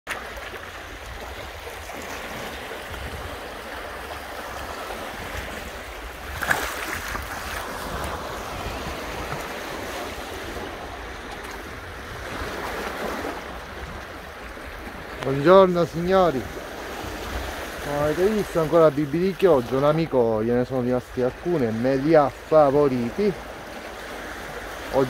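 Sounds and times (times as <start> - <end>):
sea waves washing: 0.1 - 25.0
wind buffeting the microphone: 0.8 - 21.6.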